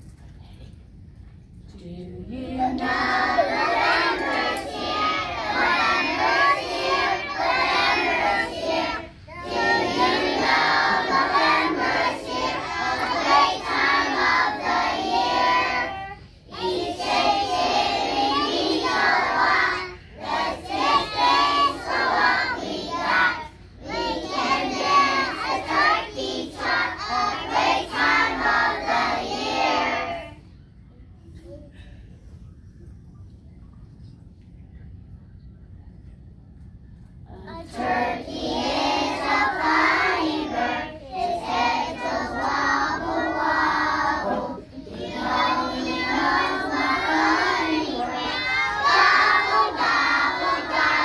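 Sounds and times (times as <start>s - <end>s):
children singing together: 2.6s - 30.4s, 37.5s - 51.0s.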